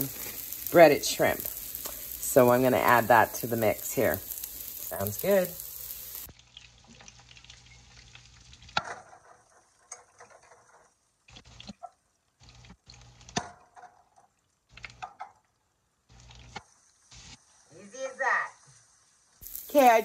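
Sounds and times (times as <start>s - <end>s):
pancake sizzling in a pan: 0.0s - 13.6s, 16.0s - 20.0s.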